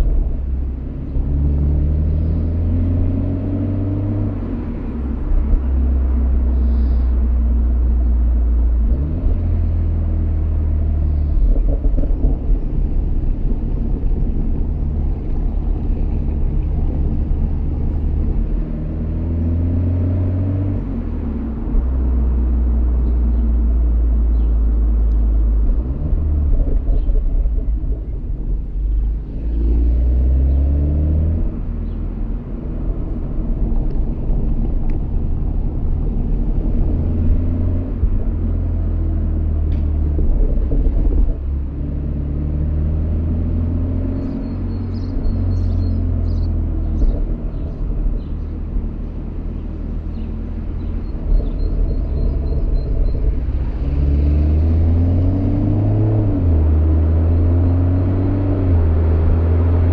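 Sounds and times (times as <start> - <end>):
car exhaust drone with gear shifts: 0.0 - 59.9.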